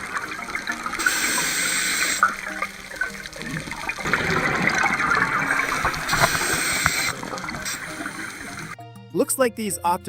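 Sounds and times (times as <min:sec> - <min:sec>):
water splashing and gushing: 0:00.0 - 0:08.8.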